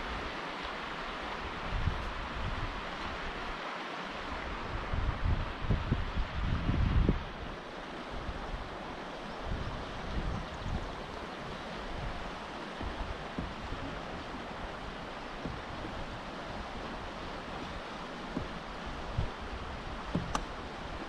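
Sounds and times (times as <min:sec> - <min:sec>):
wind buffeting microphone: 0:01.4 - 0:03.5, 0:04.4 - 0:21.0.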